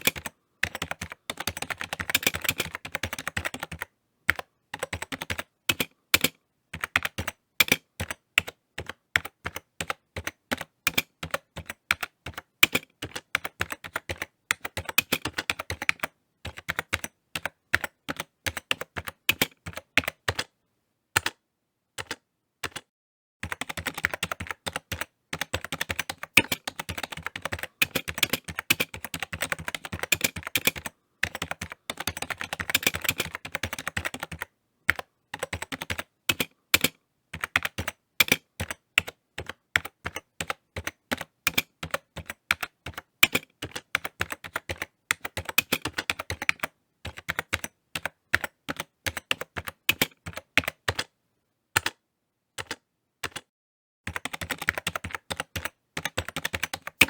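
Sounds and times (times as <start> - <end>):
keyboard typing clicks: 0.0 - 20.5, 22.0 - 51.1, 52.6 - 53.5, 54.1 - 57.0.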